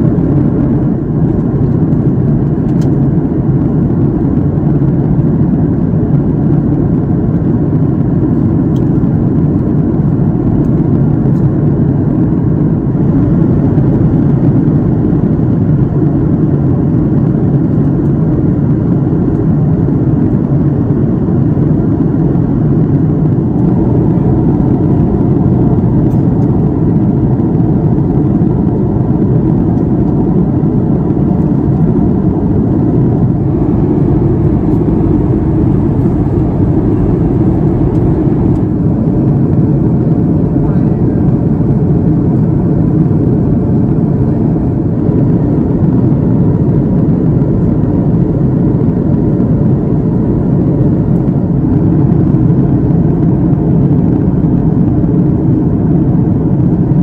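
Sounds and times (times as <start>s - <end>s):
airplane cabin roar: 0.0s - 57.0s
jet engines: 0.0s - 57.0s.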